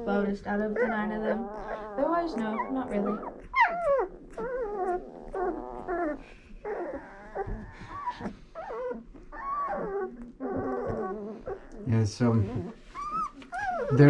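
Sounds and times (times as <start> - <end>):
puppies whining and whimpering: 0.0 - 14.0.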